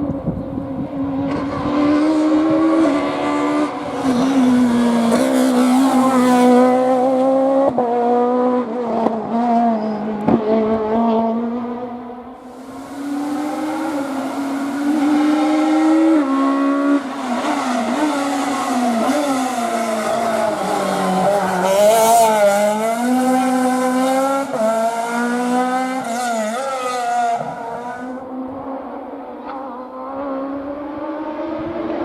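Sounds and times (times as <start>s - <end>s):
rally car engine revving: 0.1s - 32.0s.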